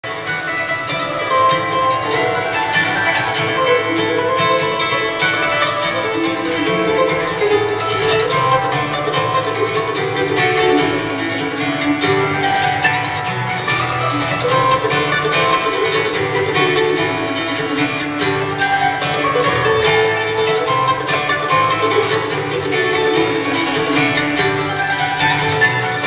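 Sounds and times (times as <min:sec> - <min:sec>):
banjo: 0:00.0 - 0:26.0
fiddle: 0:00.0 - 0:26.0
guitar: 0:00.0 - 0:26.0
mandolin: 0:00.0 - 0:26.0.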